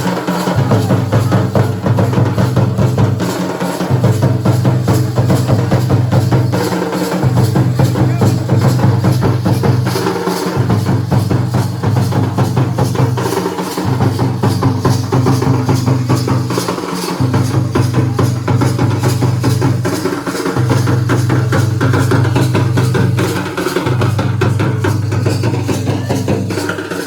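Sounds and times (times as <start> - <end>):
fast drumming: 0.0 - 27.0.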